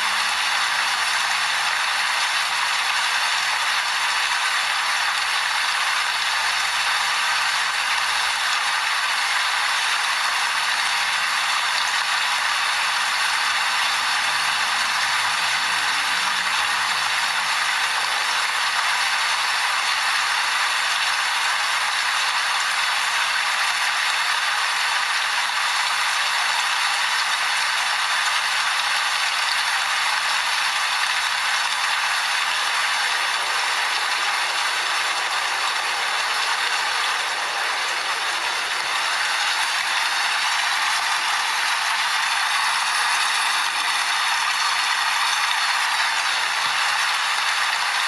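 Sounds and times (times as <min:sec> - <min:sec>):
steady rain: 0:00.0 - 0:48.0.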